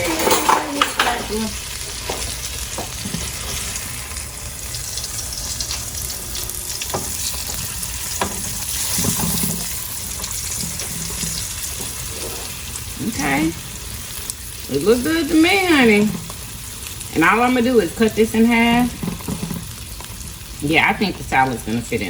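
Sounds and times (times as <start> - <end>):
sandwich sizzling in a pan: 0.0 - 22.0.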